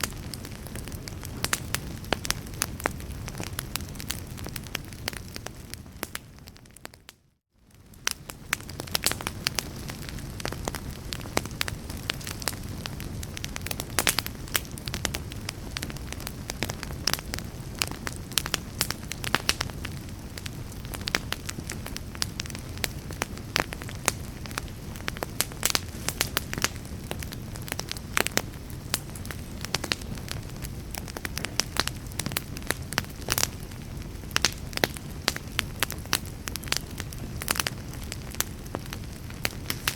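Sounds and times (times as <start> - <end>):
fire pops and snaps: 0.0 - 39.9
low rumble of flames: 0.0 - 39.9.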